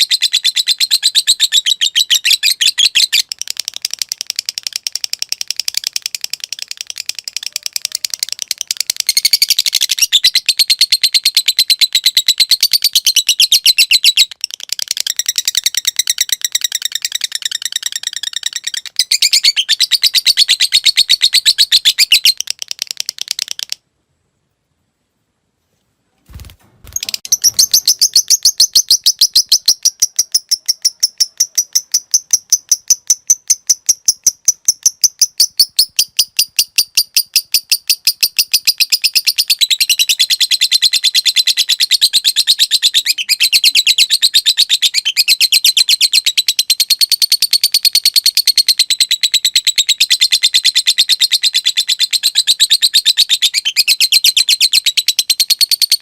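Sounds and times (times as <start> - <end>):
lovebird trilling: 0.0 - 23.8, 26.3 - 56.0.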